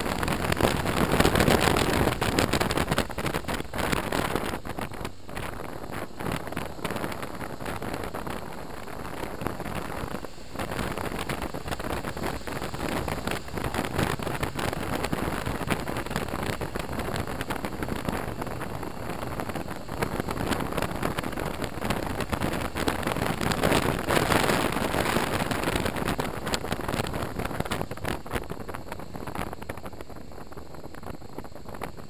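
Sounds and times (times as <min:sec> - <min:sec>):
motorcycle running noise: 0:00.0 - 0:32.0
wind rushing over camera: 0:00.0 - 0:32.0.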